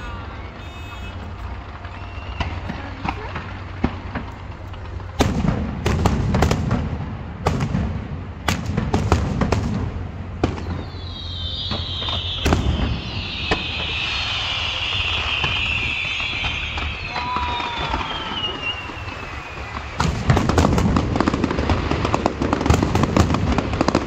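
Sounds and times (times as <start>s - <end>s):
fireworks bangs and booms: 0.0s - 24.0s
fireworks hissing crackle: 0.0s - 24.0s.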